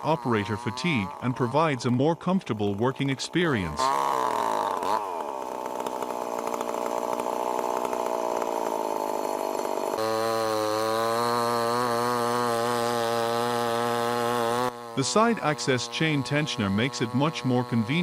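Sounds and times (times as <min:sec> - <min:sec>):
chainsaw running fast: 0:00.0 - 0:18.0.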